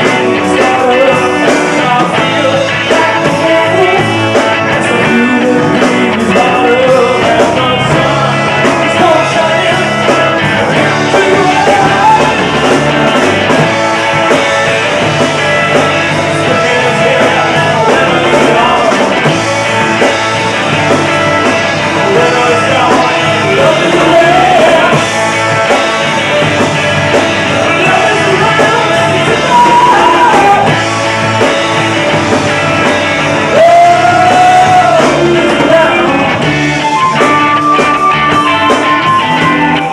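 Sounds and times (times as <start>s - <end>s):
drum kit: 0.0s - 39.9s
electric bass: 0.0s - 39.9s
electric guitar: 0.0s - 39.9s
man singing lead vocal: 0.0s - 39.9s.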